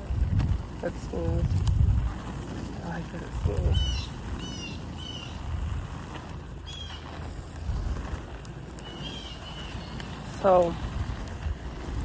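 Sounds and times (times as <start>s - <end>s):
skate wheels rolling on pavement: 0.0s - 12.0s
wind on microphone: 0.0s - 12.0s.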